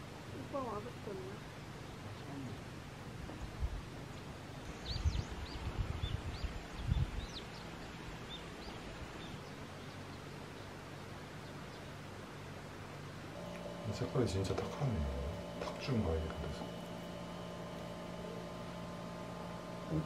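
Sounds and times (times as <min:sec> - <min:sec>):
birds chirping: 0:00.0 - 0:20.0
quiet outdoor background noise: 0:00.0 - 0:20.0.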